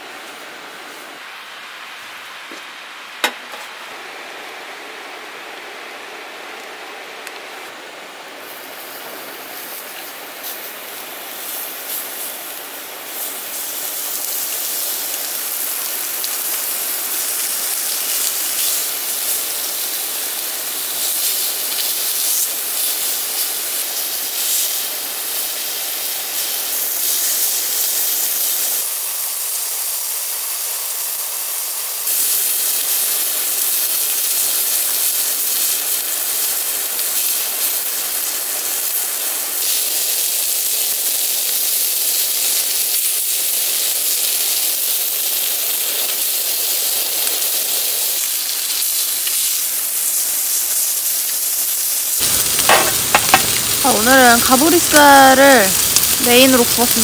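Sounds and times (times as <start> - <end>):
meat sizzling on grill plate: 8.4 - 57.0.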